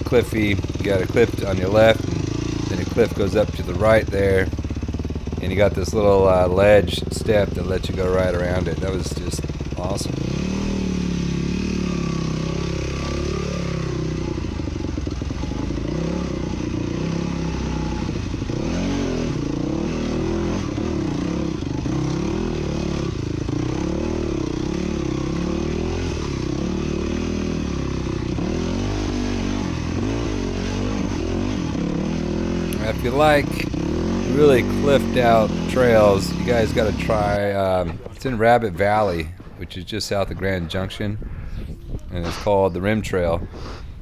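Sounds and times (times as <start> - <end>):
dirt bike engine running: 0.0 - 43.8.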